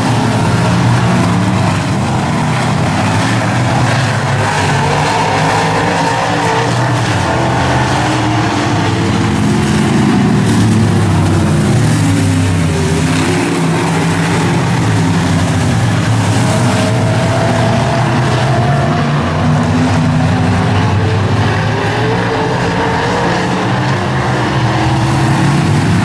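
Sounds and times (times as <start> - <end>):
race car engines running hard: 0.0 - 26.0.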